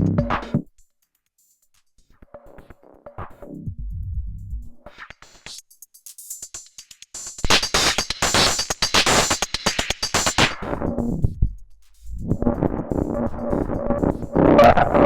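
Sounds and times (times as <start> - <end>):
filtered drum machine pattern: 0.0 - 0.8, 1.4 - 15.0.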